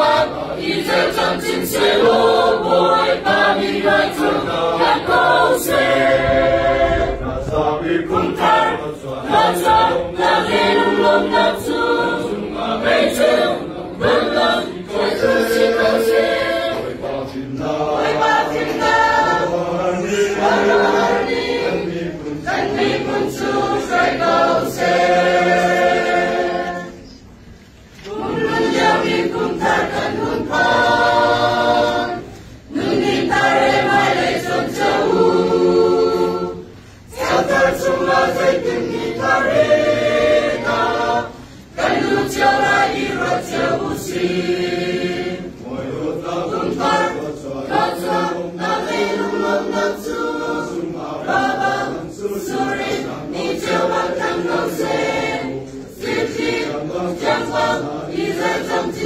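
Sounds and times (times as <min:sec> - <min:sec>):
choir singing a hymn unaccompanied: 0:00.0 - 0:59.0.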